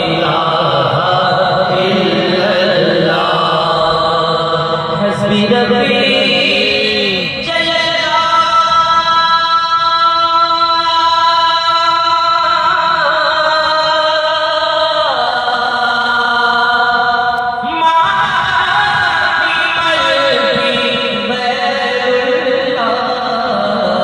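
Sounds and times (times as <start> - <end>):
voices singing devotional song: 0.0 - 24.0.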